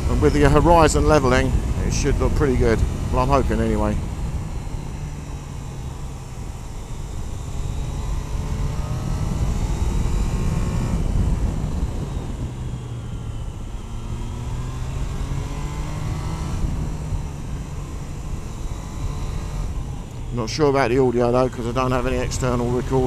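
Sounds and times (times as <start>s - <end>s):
motorcycle engine accelerating: 0.0s - 23.0s
wind rush on microphone: 0.0s - 23.0s.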